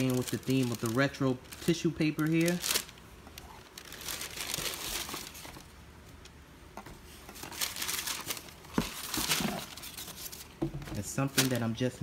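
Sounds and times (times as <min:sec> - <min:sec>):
tissue paper rustling: 0:00.0 - 0:05.7, 0:07.1 - 0:10.5, 0:11.2 - 0:11.8.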